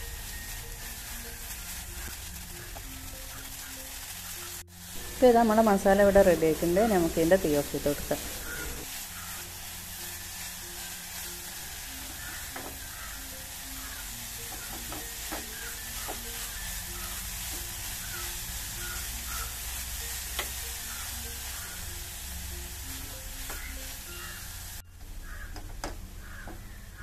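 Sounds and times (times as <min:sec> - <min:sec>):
pan sizzling: 0:00.0 - 0:27.0
spatula scraping a pan: 0:00.2 - 0:25.4.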